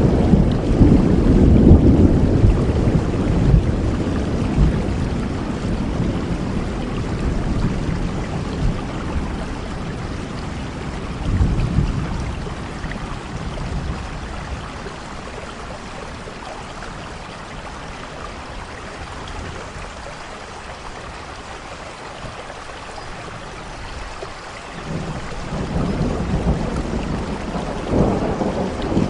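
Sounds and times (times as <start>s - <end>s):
low thunder rumble: 0.0s - 20.2s, 24.8s - 29.0s
heavy rain falling: 0.0s - 29.0s.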